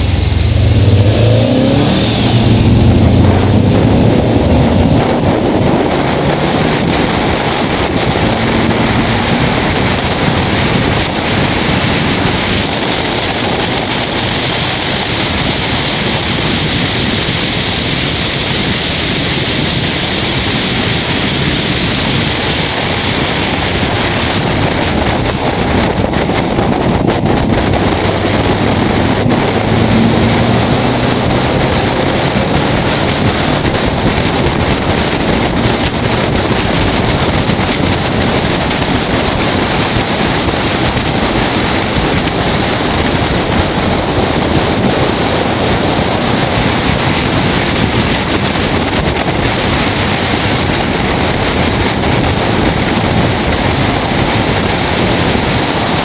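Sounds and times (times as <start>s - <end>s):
faint race car engine: 0.0s - 56.0s
road roar: 0.0s - 56.0s
wind buffeting microphone: 0.0s - 56.0s.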